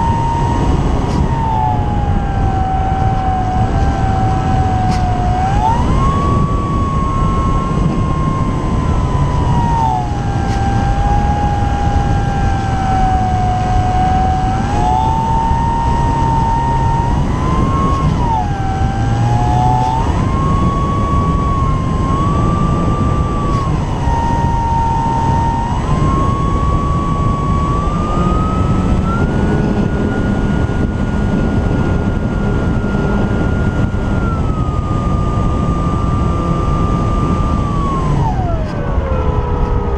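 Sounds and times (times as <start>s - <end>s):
model plane motor whining: 0.0s - 39.9s
wind rush: 0.0s - 39.9s.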